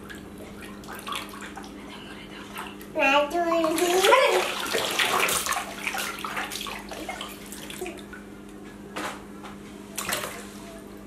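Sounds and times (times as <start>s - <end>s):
water sloshing and splashing: 0.0s - 8.3s, 10.0s - 10.6s.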